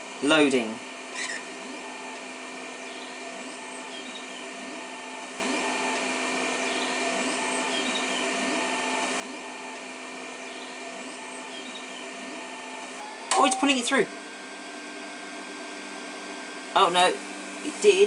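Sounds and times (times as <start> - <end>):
printer stepper motor humming: 0.0 - 18.0.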